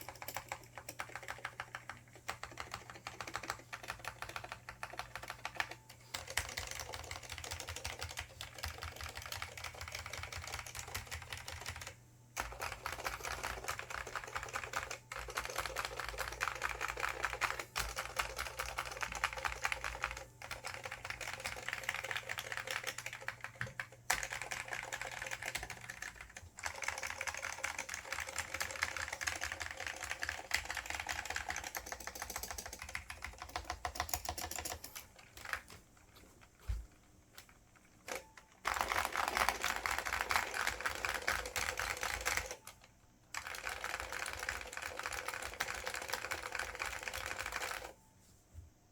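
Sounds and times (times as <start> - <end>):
fast keyboard typing: 0.0 - 48.0.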